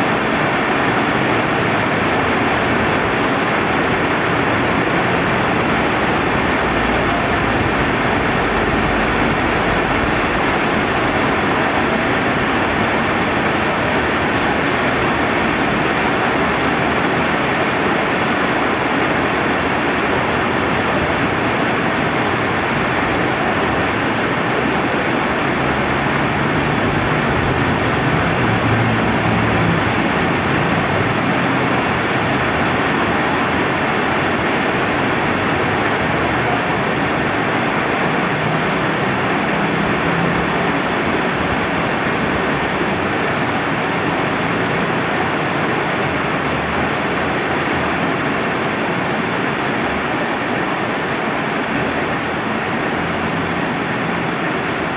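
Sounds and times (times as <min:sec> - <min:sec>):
river flowing: 0:00.0 - 0:54.9
steady rain falling: 0:00.0 - 0:54.9.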